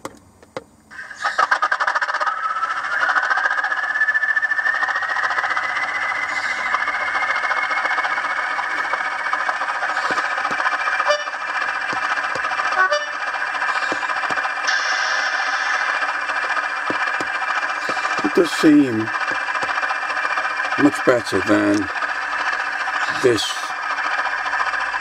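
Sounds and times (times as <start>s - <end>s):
model diesel engine sound: 0.0s - 25.0s
rattling: 1.2s - 25.0s.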